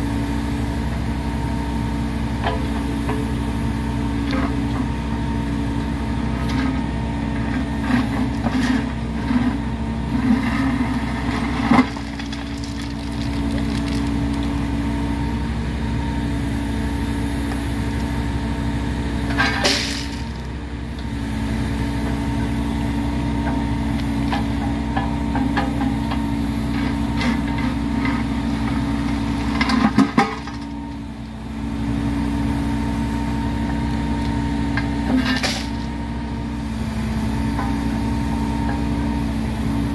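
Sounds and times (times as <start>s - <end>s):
heavy engine idling: 0.0s - 39.9s.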